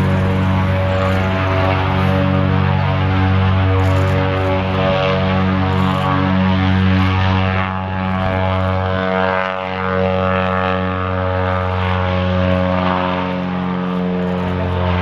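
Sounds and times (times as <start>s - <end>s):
propeller engines droning: 0.0s - 15.0s.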